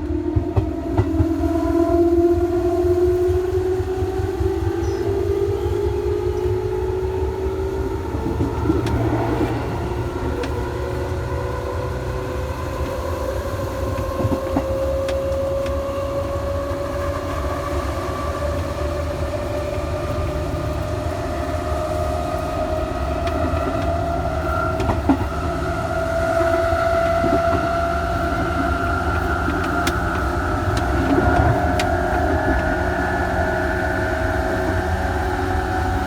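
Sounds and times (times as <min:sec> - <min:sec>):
train motors whining: 0:00.0 - 0:36.0.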